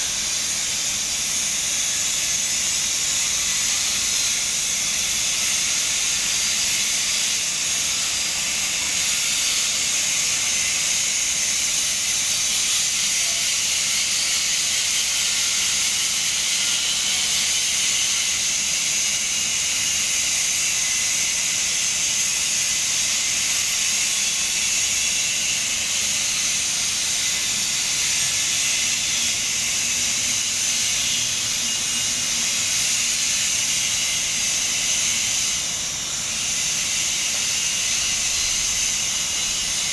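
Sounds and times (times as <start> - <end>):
welding arc hissing: 0.0 - 39.9.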